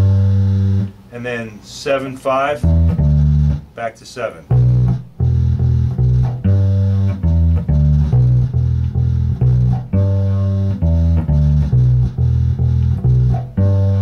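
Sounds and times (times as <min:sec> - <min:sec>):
bass guitar playing blues riff: 0:00.0 - 0:14.0.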